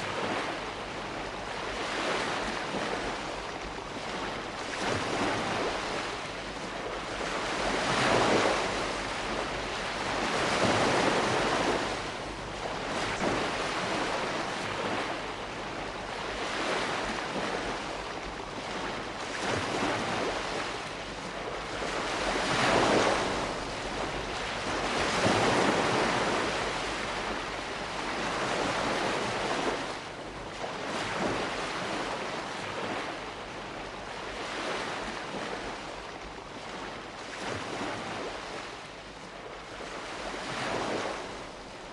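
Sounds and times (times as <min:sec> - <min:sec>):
waves washing on shore: 0:00.0 - 0:41.9.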